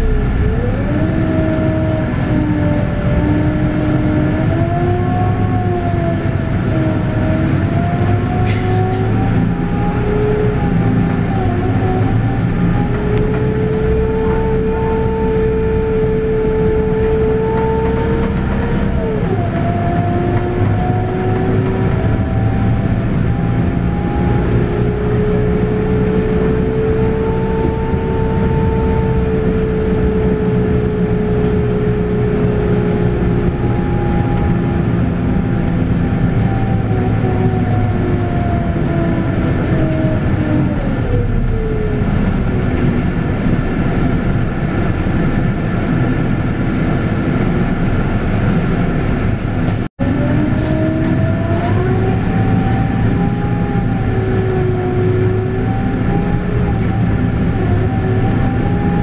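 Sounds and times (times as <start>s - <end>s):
bus drivetrain whine: 0.0s - 59.0s
low engine rumble: 0.0s - 59.0s.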